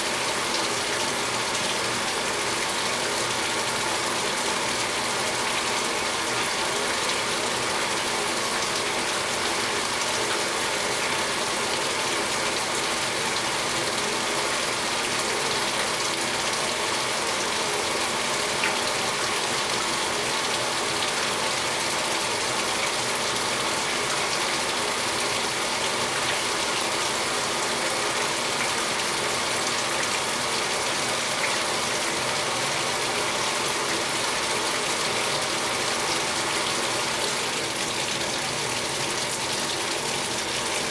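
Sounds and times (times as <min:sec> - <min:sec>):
washing machine filling with water: 0:00.0 - 0:40.9.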